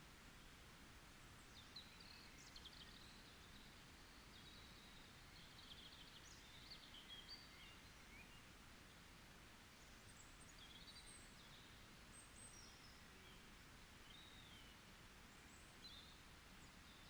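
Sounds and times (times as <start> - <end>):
low background hiss: 0.0 - 17.0
faint birdsong: 1.3 - 17.0.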